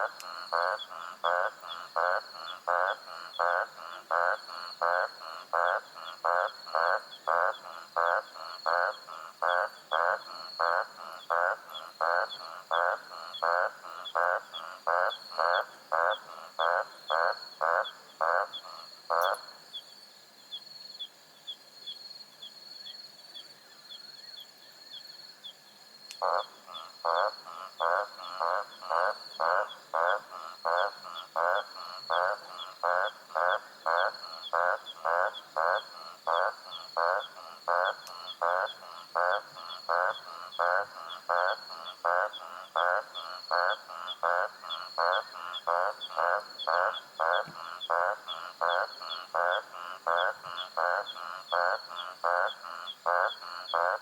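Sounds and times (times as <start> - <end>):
frog croaking: 0.0 - 19.9, 26.1 - 54.0
night insects chirping: 0.0 - 54.0.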